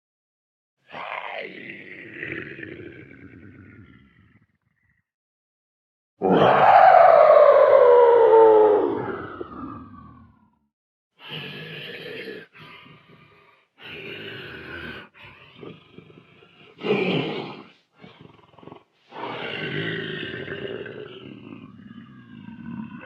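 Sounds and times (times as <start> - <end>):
dinosaur roars and growls: 0.9 - 4.9, 6.2 - 10.6, 11.2 - 23.0.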